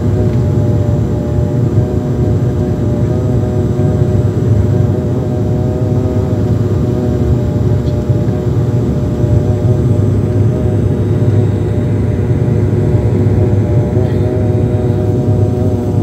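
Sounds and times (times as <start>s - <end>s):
turboprop engine drone in cabin: 0.0s - 16.0s.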